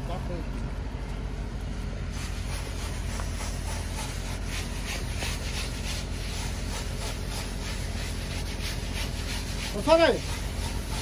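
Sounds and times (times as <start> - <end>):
hand float rasping on cement: 2.1 - 11.0.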